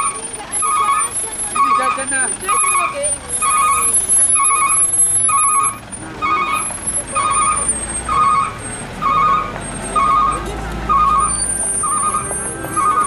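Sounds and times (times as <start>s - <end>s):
reversing alarm beeping: 0.0s - 13.0s
vehicle engines running low: 0.0s - 13.0s.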